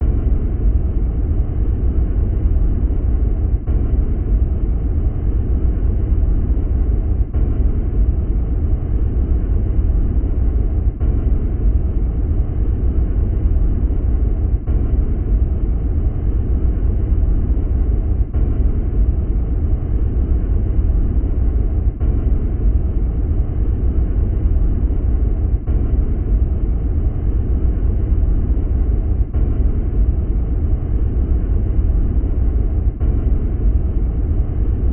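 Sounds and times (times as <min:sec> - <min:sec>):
deep rumble: 0:00.0 - 0:34.9.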